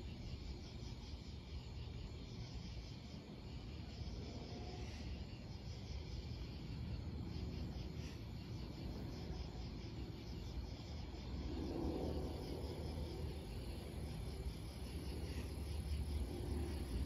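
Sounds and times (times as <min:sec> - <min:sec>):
night insects chirping: 0:00.0 - 0:17.0.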